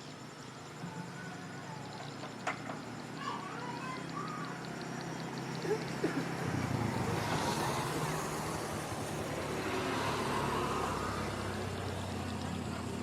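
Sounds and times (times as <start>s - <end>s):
rushing traffic sound: 0.0s - 13.0s
traffic engine hum: 0.0s - 13.0s.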